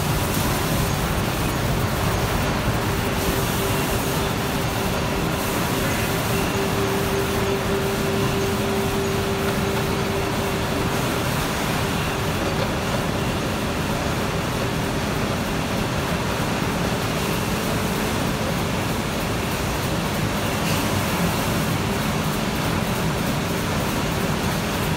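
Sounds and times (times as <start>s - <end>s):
bottling machinery hiss and rumble: 0.0s - 24.9s
steady machine hum: 0.0s - 24.9s.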